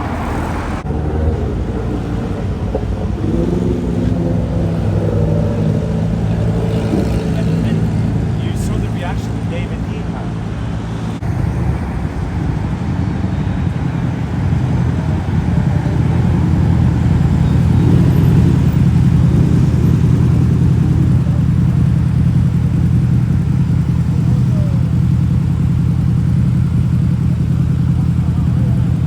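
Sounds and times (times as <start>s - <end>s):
car engine low rumble: 0.0s - 29.0s.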